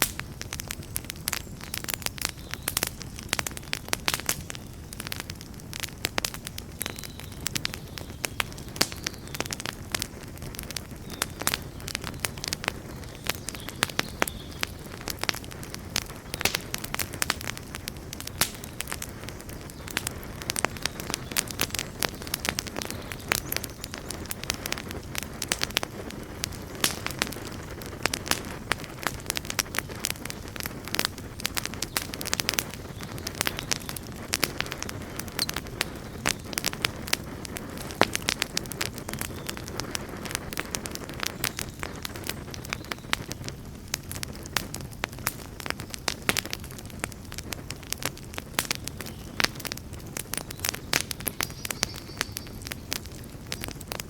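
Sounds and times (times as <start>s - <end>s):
campfire crackling and popping: 0.0s - 54.0s
low rumble of flame: 0.0s - 54.0s.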